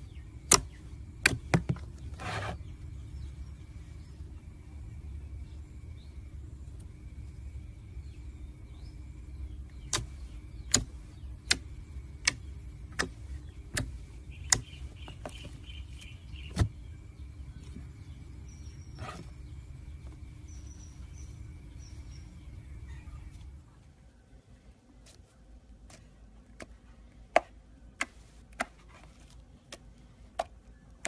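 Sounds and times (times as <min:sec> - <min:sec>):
low steady rumble: 0:00.0 - 0:31.0.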